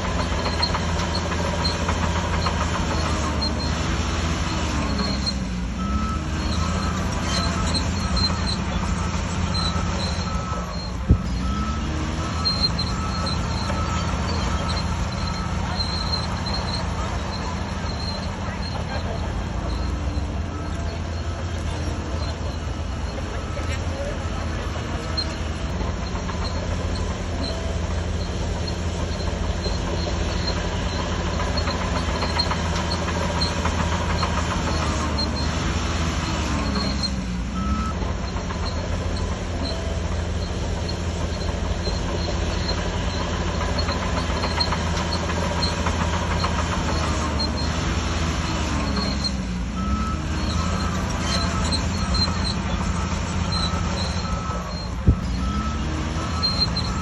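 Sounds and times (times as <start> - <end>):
bulldozer diesel engine drone: 0.0 - 57.0
track and machinery clatter: 0.0 - 57.0.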